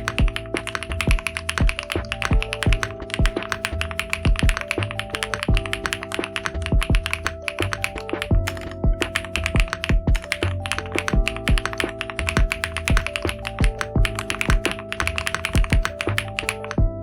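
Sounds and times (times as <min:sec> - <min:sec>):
mechanical keyboard keys clacking: 0:00.0 - 0:16.8
background music with held notes: 0:00.0 - 0:17.0.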